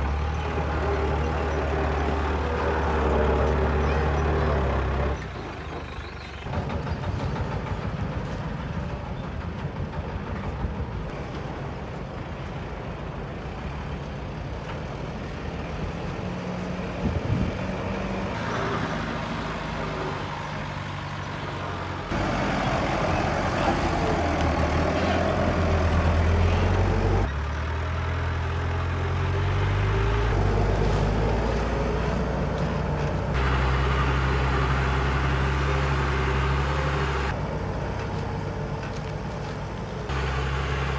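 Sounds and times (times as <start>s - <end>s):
heavy diesel engines under load: 0.0s - 40.9s.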